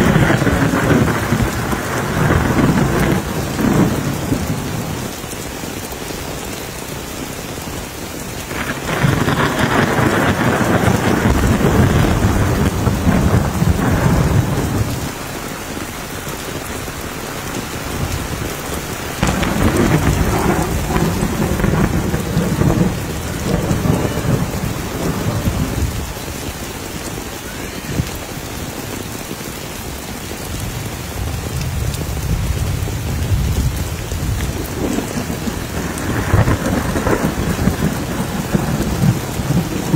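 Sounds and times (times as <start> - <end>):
rolling thunder: 0.0 - 5.4, 8.4 - 28.5, 30.3 - 39.9
heavy rain pouring: 0.0 - 39.9.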